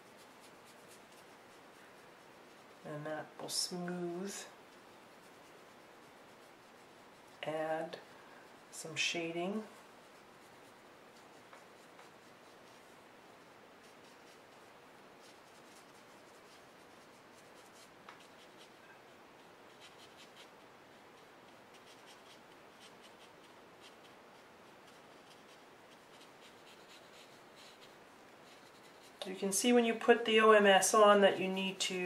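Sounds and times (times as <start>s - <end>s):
brush pen strokes on paper: 0.0s - 30.2s.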